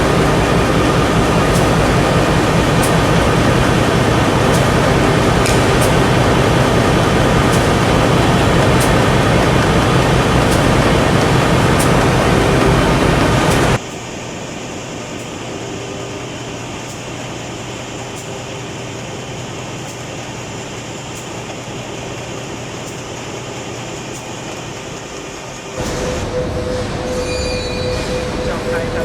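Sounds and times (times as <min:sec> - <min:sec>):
printing machine running: 0:00.0 - 0:29.0.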